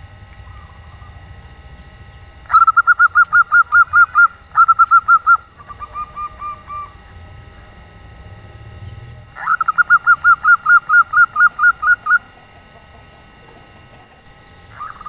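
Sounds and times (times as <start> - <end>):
dove cooing: 0.3 - 15.0.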